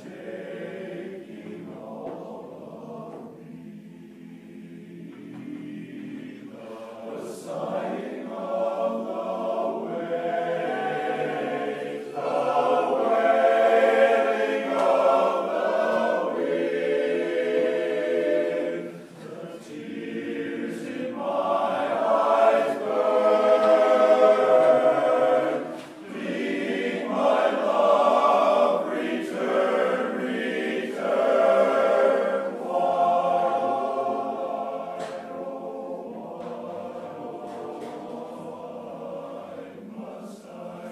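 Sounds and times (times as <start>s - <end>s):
men's chorus singing a cappella: 0.0s - 40.9s.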